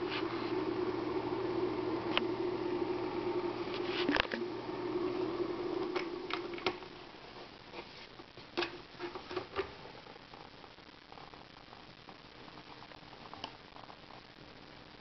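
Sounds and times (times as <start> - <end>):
humidifier humming: 0.0 - 15.0.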